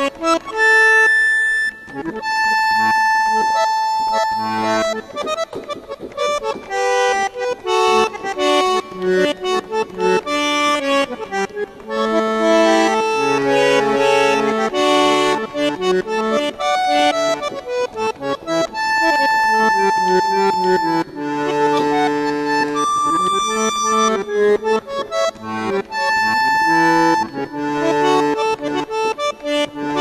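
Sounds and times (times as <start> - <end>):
keyboard bandoneon melody: 0.0 - 30.0.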